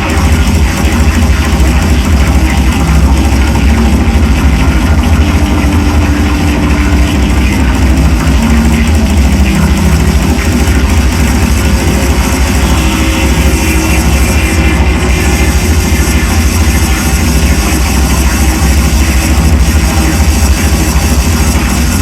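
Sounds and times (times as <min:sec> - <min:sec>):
distorted drone noise music: 0:00.0 - 0:22.0.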